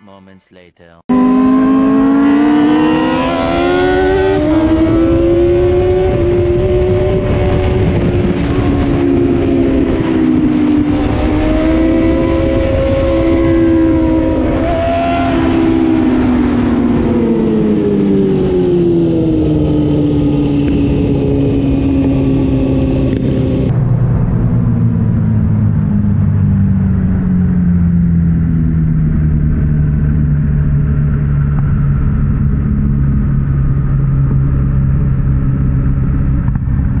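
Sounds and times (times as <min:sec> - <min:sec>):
motorcycle engine slowing: 0:01.1 - 0:37.0.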